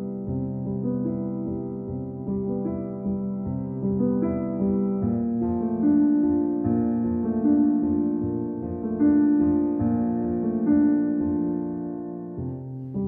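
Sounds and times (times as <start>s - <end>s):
slow piano piece: 0.0s - 13.0s.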